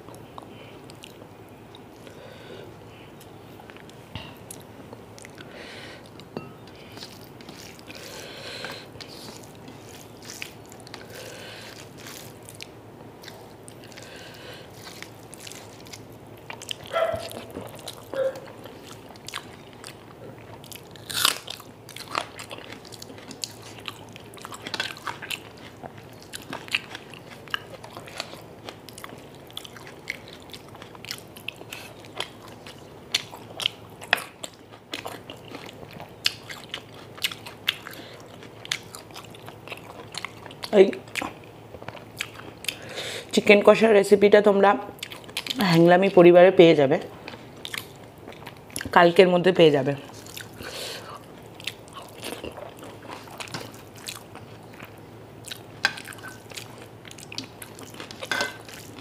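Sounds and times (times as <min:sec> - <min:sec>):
chewing and mouth sounds: 0:00.0 - 0:02.2, 0:03.2 - 0:42.8, 0:44.9 - 0:45.6, 0:47.2 - 0:49.0, 0:50.1 - 0:59.0.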